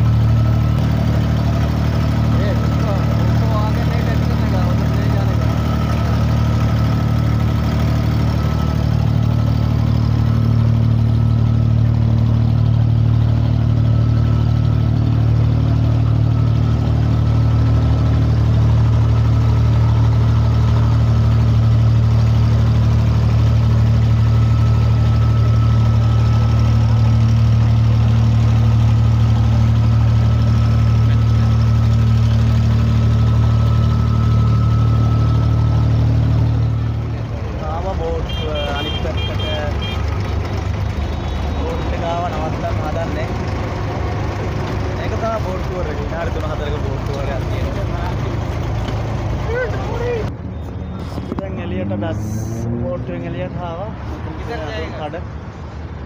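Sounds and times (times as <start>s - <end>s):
boat engine running: 0.0s - 54.5s.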